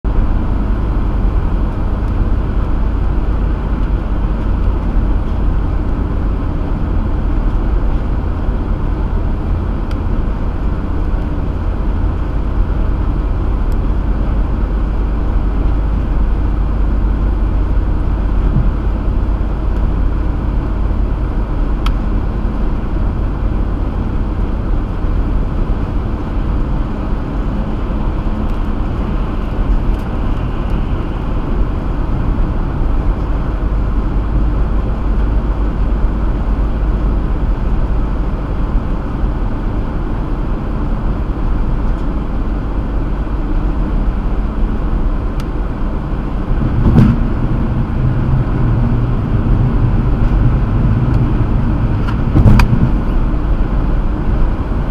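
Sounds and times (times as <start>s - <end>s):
car road noise rumble: 0.0s - 54.9s.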